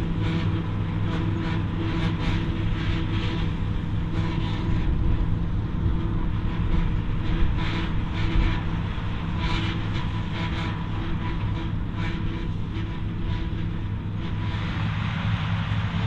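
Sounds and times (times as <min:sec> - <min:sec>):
diesel tractor engine under load: 0:00.0 - 0:16.0
harvester rotor whine: 0:00.0 - 0:16.0.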